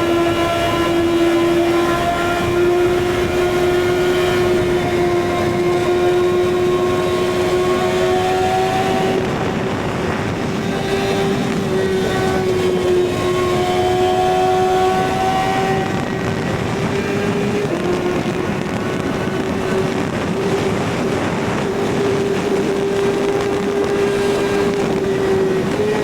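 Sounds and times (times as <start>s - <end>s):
motorcycle engine at high revs: 0.0s - 26.0s
rushing wind: 0.0s - 26.0s.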